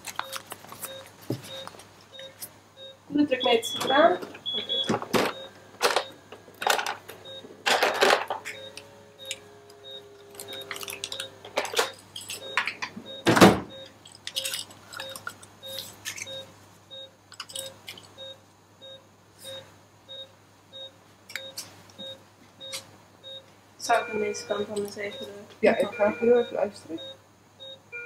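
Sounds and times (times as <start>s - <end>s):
patient monitor beeping: 0.2s - 28.0s.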